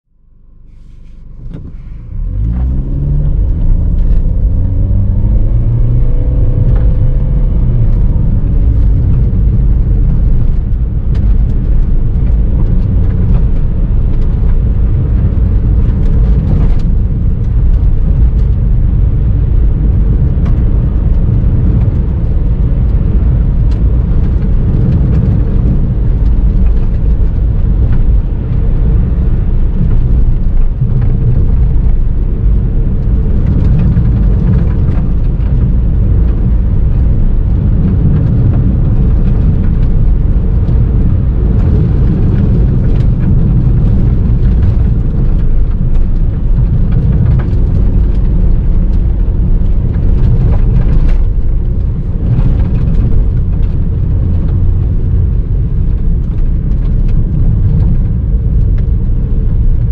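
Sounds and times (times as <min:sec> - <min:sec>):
car engine accelerating: 0:00.3 - 0:59.9
tyres rumbling on gravel: 0:01.4 - 0:59.9.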